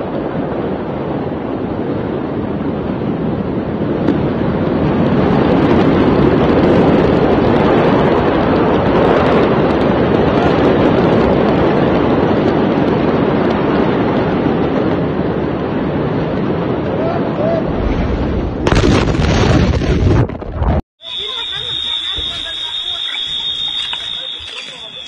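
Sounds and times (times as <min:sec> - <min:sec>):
roar of large fire: 0:00.0 - 0:20.8
fire crackling: 0:00.0 - 0:25.0
wind on microphone: 0:00.0 - 0:25.0.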